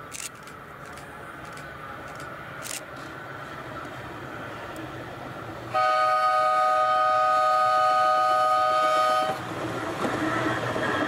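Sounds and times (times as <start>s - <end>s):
rail wheels on track: 0.0s - 11.0s.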